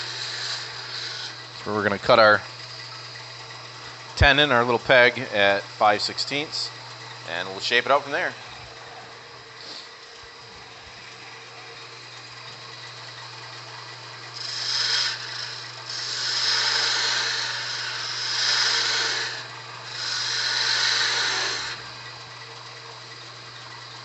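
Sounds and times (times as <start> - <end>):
turning tool cutting wood: 0.0 - 24.0
wood lathe humming: 0.0 - 24.0.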